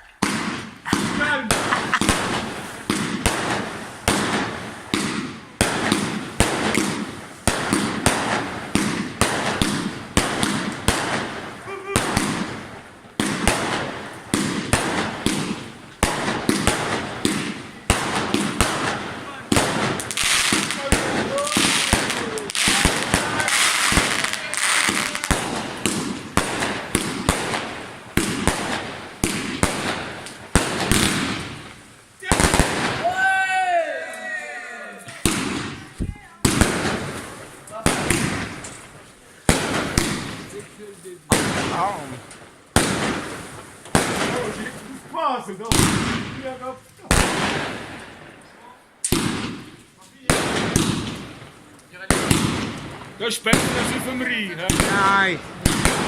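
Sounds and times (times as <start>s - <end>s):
fireworks bangs with echo: 0.0s - 33.8s, 35.0s - 56.0s.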